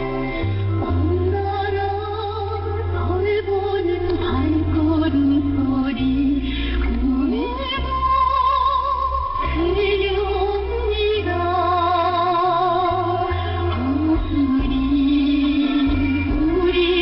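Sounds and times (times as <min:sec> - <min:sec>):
instrumental accompaniment: 0:00.0 - 0:17.0
women singing over radio: 0:00.1 - 0:17.0.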